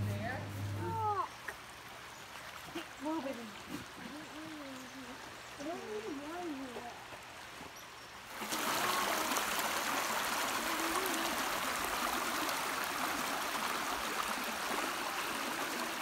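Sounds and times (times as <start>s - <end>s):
creek water rushing over stones: 0.0s - 16.0s.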